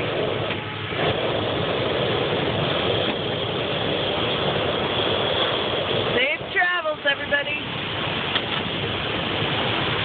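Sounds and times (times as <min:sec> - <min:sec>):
propane burner hissing: 0:00.0 - 0:10.0.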